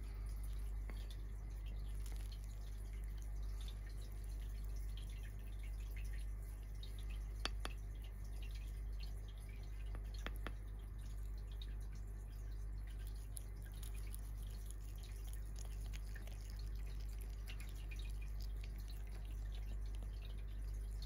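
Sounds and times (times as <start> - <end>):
kitten licking and chewing: 0.0 - 21.0.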